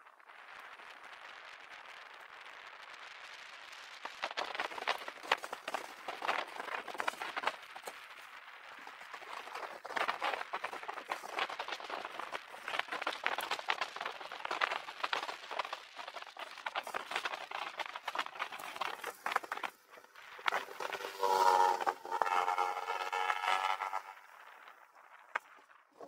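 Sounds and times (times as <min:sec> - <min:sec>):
rush of riding noise: 0:00.1 - 0:26.0
bicycle rattling and clattering: 0:04.0 - 0:26.0.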